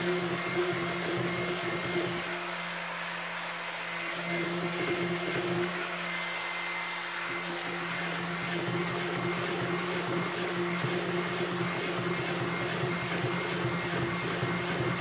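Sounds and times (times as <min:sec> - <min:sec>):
stick blender running: 0:00.0 - 0:15.0.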